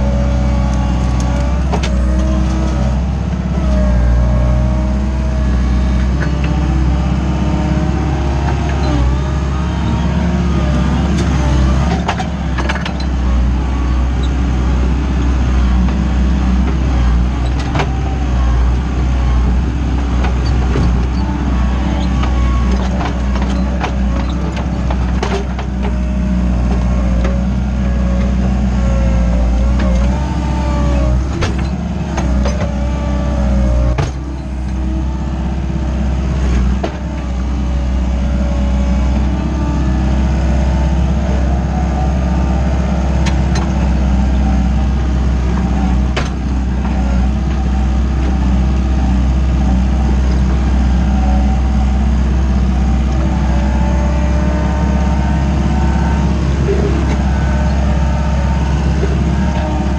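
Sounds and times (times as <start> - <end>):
diesel engine running hard: 0.0 - 59.9.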